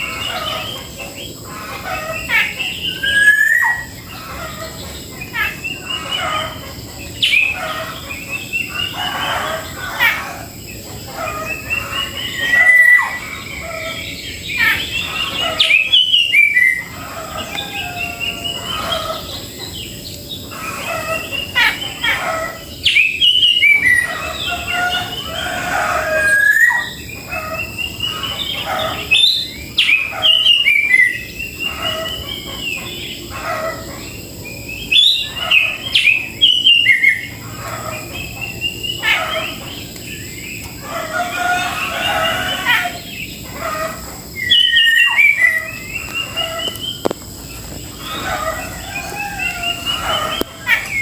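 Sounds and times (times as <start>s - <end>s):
bulbul calling: 0.0s - 51.0s.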